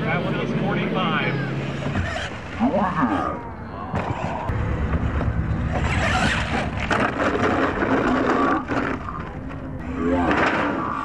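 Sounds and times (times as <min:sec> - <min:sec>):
rc truck rumbling: 0:00.0 - 0:11.0.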